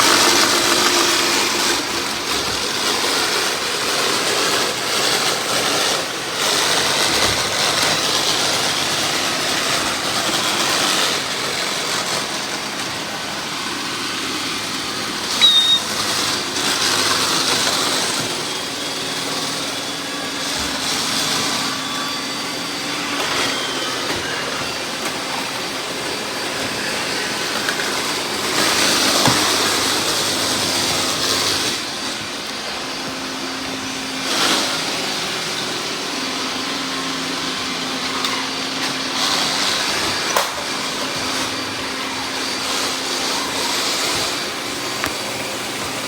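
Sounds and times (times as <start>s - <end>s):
robot vacuum whirring: 0.0s - 46.0s.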